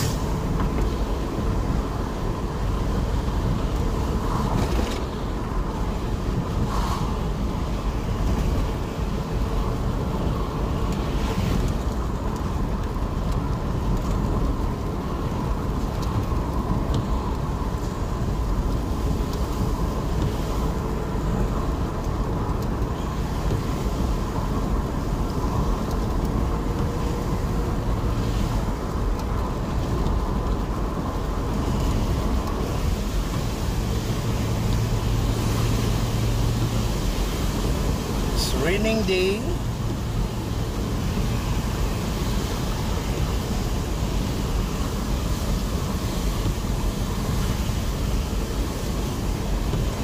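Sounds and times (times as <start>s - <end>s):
car road and engine noise: 0.0s - 50.0s
windscreen wipers sweeping: 0.0s - 50.0s.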